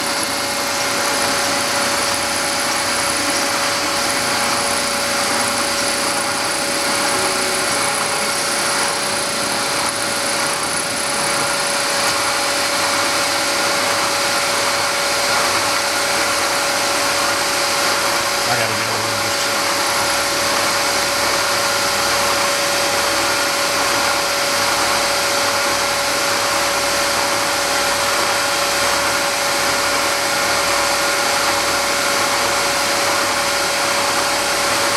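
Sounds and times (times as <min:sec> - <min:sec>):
milling machine cutting metal: 0:00.0 - 0:34.9.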